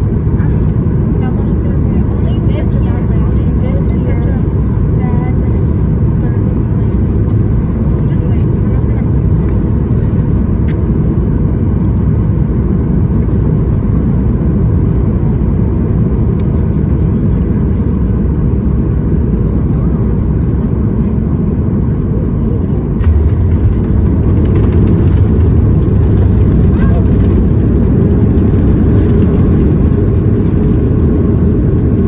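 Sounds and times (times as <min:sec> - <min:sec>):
airplane cabin engine roar: 0:00.0 - 0:32.0.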